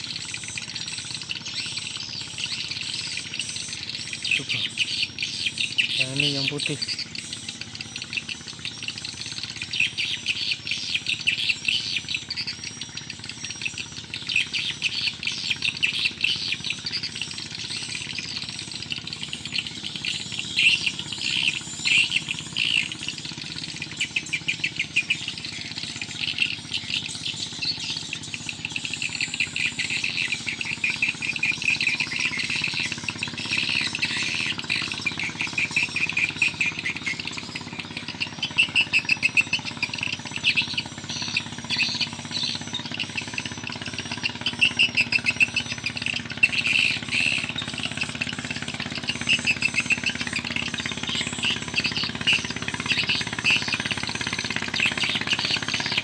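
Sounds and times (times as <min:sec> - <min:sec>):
birds chirping in chorus: 0:00.0 - 0:56.0.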